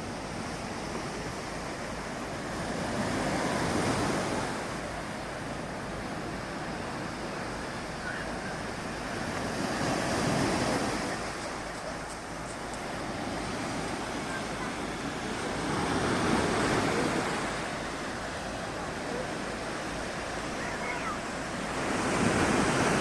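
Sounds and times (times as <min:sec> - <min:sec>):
waves breaking: 0:00.0 - 0:23.0.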